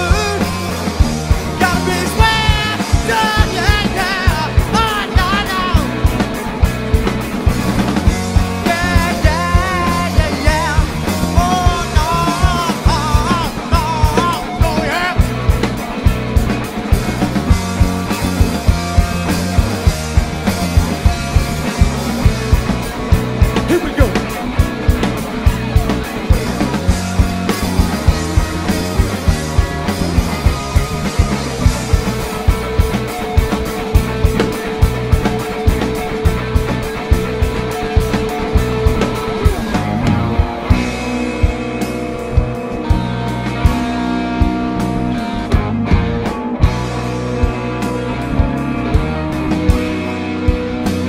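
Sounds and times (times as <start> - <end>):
bass guitar: 0.0 - 51.0
drum kit beat: 0.0 - 51.0
electric guitars: 0.0 - 51.0.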